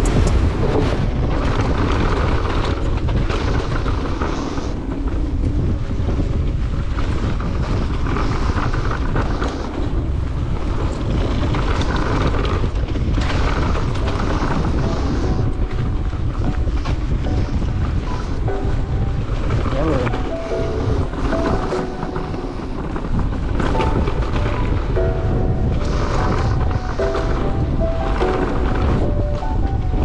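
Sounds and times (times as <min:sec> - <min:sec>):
bike knocks and rattles: 0:00.0 - 0:20.4, 0:21.0 - 0:30.0
bike tyre noise: 0:00.0 - 0:30.0
wind on microphone: 0:00.0 - 0:30.0.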